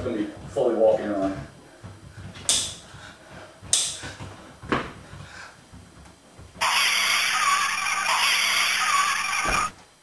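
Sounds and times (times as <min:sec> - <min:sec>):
footsteps on hard floor: 0:00.0 - 0:09.7.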